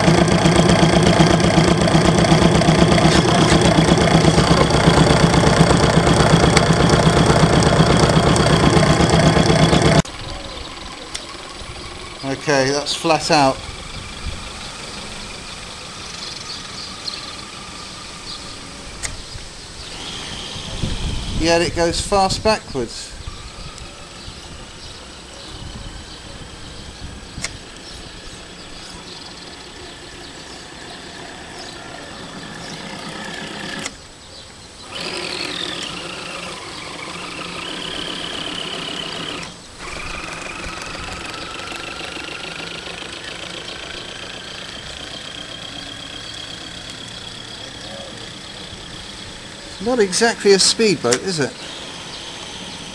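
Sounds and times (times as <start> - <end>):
electric motor whining: 0.0 - 34.2, 34.8 - 52.9.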